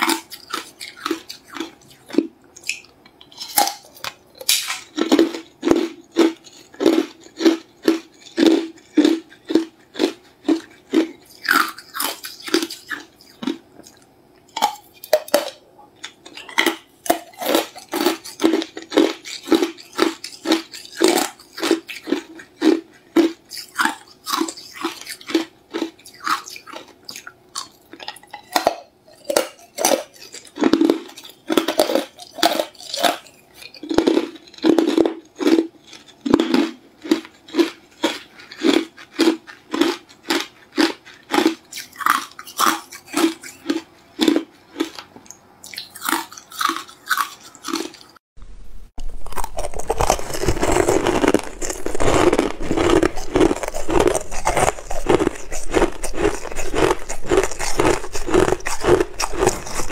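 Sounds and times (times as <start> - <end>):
person crunching ice: 0.0 - 2.3, 3.3 - 14.0, 16.4 - 45.0, 45.7 - 48.1, 49.0 - 59.9.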